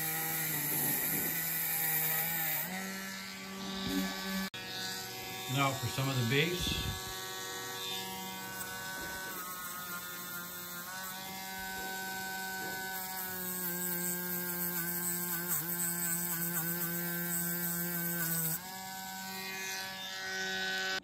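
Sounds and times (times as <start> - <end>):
rotary tool polishing metal: 0.0 - 21.0.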